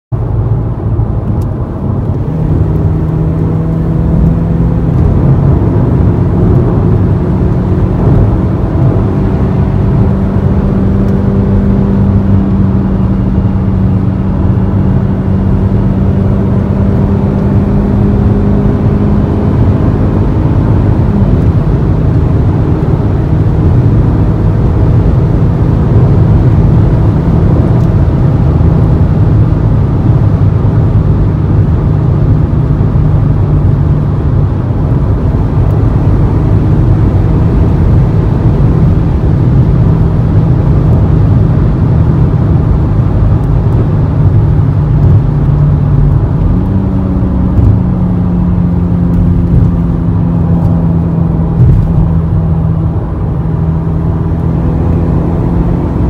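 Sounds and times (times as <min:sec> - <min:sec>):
car exhaust drone: 0:00.1 - 0:56.0
road noise: 0:00.1 - 0:56.0.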